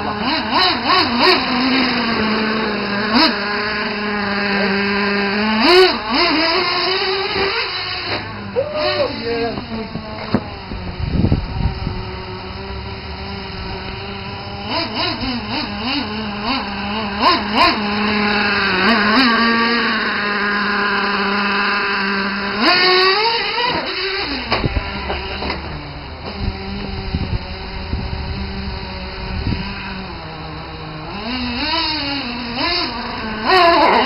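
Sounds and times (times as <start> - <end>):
rc truck engine revving: 0.0 - 34.0.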